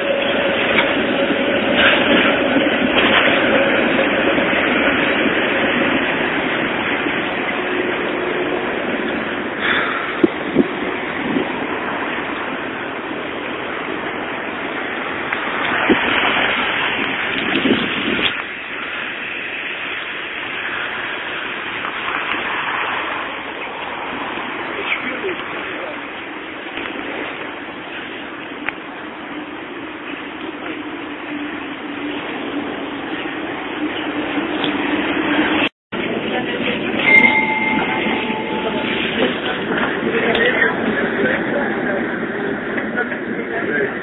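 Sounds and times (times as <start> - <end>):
tram rumbling on rails: 0.0 - 44.0.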